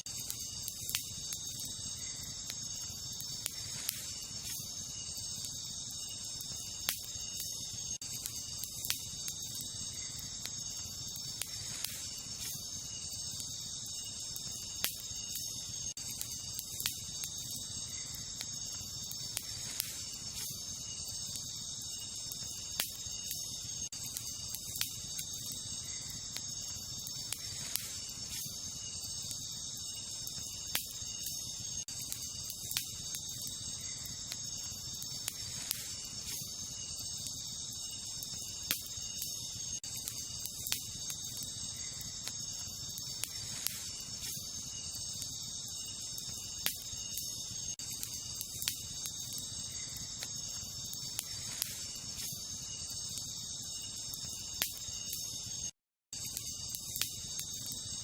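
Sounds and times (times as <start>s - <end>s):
campfire crackling and popping: 0.0s - 58.0s
night insects chirping: 0.0s - 58.0s.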